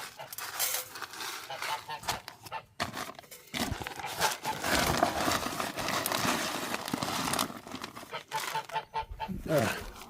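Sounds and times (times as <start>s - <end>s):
feed rustling: 0.1s - 8.8s.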